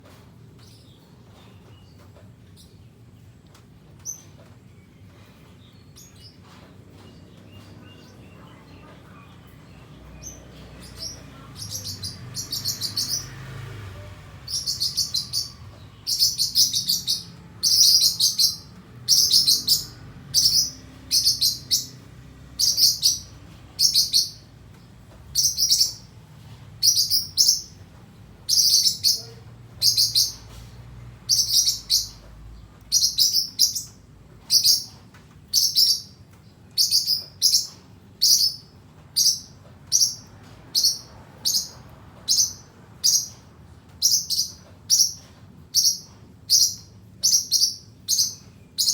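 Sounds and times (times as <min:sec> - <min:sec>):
small bird chirping: 0:04.0 - 0:48.9.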